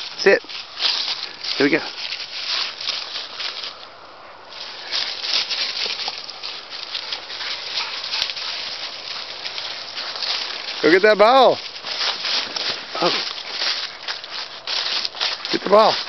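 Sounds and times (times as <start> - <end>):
running feet on dry leaves: 0.0 - 16.0.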